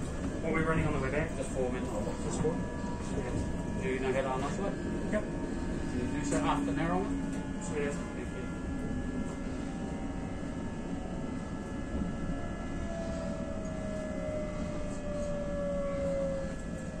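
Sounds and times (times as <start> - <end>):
faint falling whine: 0.0 - 17.0
train carriage rumble: 0.0 - 17.0.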